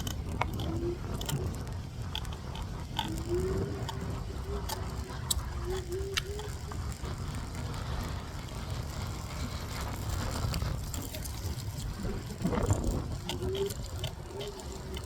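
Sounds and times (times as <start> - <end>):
faint wavering whine: 0.0 - 15.0
hoverboard wheels grinding rumble: 0.0 - 15.0.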